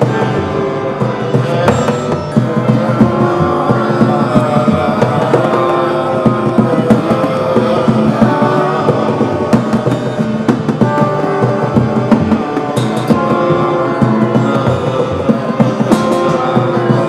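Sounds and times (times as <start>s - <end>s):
held instrument tones: 0.0s - 17.0s
percussion struck quickly: 0.0s - 17.0s.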